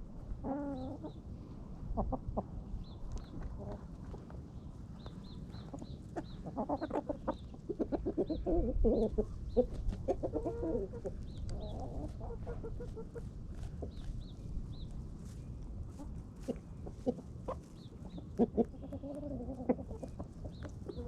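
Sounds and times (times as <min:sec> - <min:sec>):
low wind rumble: 0:00.0 - 0:06.5, 0:07.1 - 0:18.2
hens clucking: 0:00.0 - 0:21.0.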